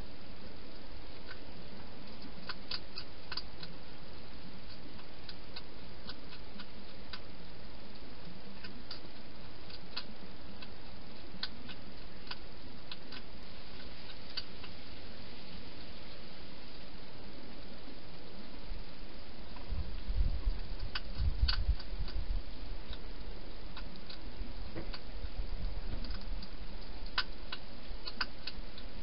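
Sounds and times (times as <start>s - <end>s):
steady hiss: 0.0s - 29.0s
hedgehog crunching food: 0.1s - 29.0s.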